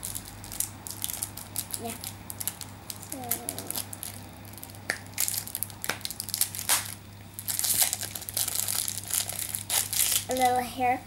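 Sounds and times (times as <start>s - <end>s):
plastic packet crinkling: 0.0s - 10.5s.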